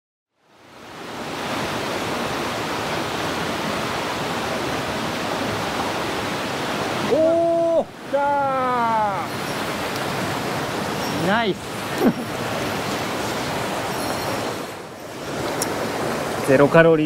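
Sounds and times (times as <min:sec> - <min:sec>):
stream rushing over boulders: 0:00.4 - 0:17.0.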